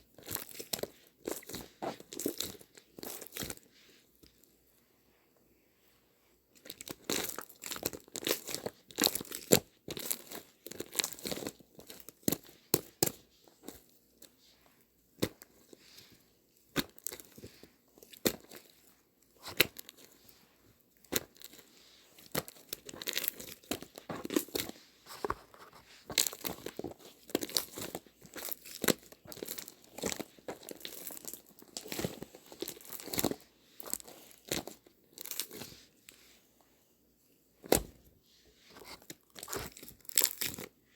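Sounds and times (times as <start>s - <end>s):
crinkling and crackling: 6.5s - 36.4s, 37.6s - 40.9s.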